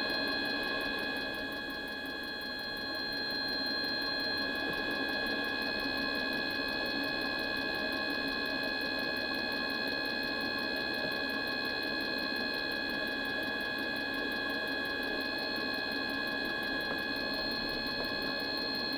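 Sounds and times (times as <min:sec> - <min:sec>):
heater blower motor whine: 0:00.0 - 0:18.9.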